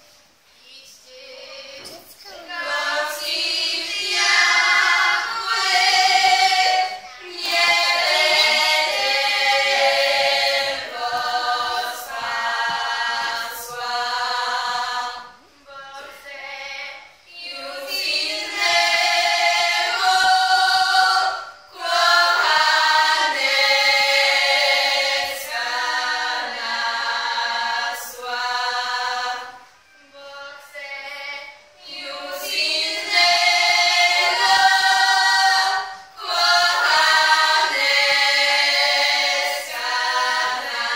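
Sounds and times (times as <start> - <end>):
women singing a cappella: 0.0 - 40.9.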